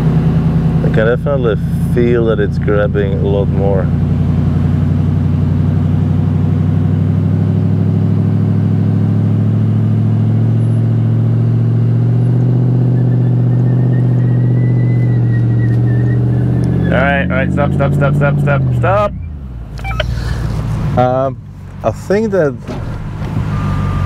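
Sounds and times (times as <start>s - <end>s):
engine running under heavy load: 0.0s - 24.0s.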